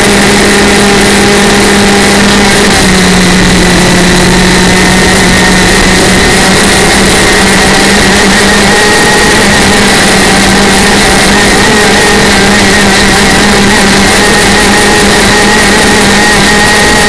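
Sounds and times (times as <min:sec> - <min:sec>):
two-stroke engine running flat out: 0:00.0 - 0:17.0.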